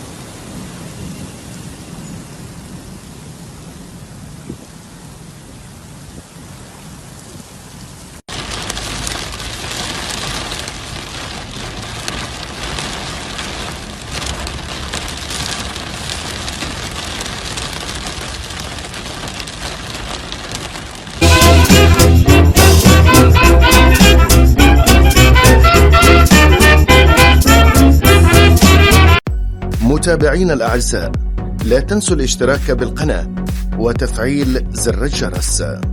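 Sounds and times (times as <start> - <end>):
heavy rain falling: 0.0 - 29.2
raindrops on a hard surface: 0.0 - 29.2.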